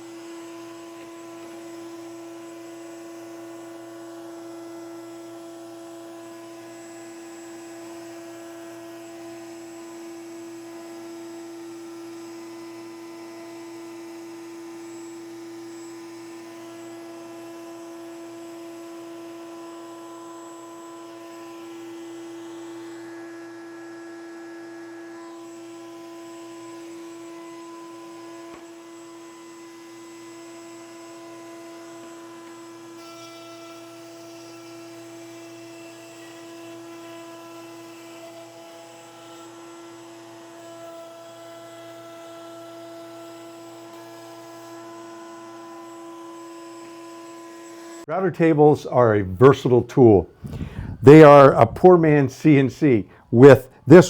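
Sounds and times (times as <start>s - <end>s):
router motor whining: 0.0s - 48.1s
router bit cutting wood: 0.0s - 48.2s.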